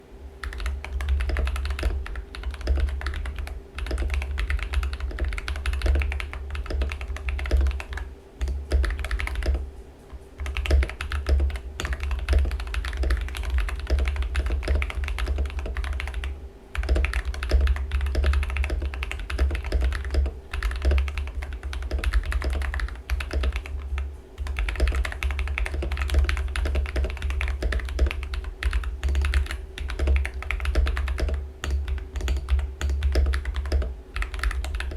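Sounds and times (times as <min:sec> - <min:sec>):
mechanical keyboard typing: 0:00.4 - 0:09.6, 0:10.4 - 0:34.9.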